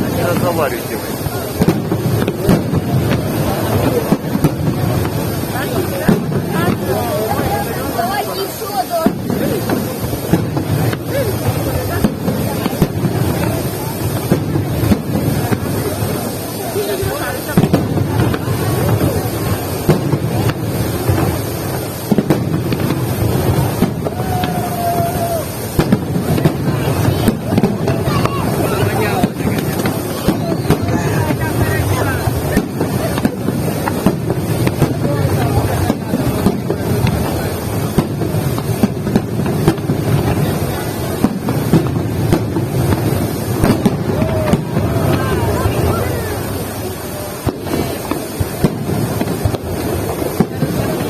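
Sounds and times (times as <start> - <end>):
firework bangs: 0.0 - 51.0.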